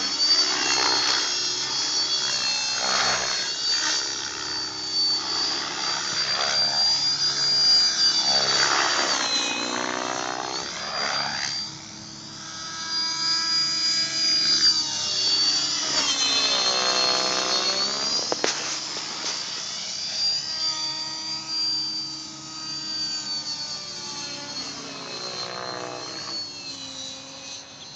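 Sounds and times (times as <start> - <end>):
electric motor whine: 0.0 - 27.9
helicopter rotor noise: 0.0 - 27.9.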